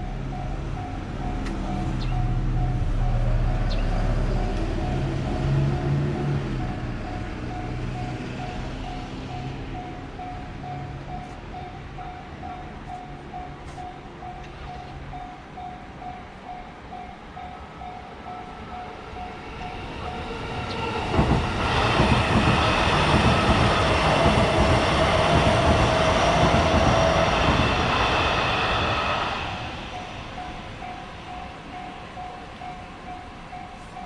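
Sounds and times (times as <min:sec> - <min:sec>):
train passing: 0:00.0 - 0:34.0.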